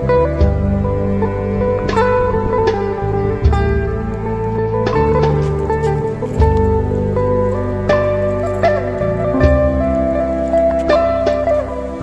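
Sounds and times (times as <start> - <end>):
plucked strings: 0.0 - 12.0
sustained low notes: 0.0 - 12.0.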